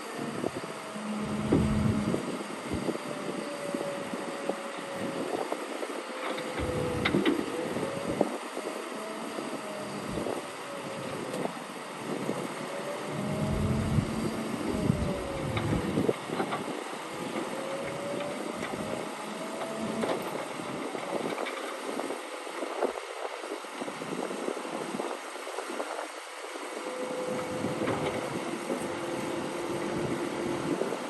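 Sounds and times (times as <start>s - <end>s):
bulldozer engine: 0.0s - 22.6s, 24.7s - 31.0s.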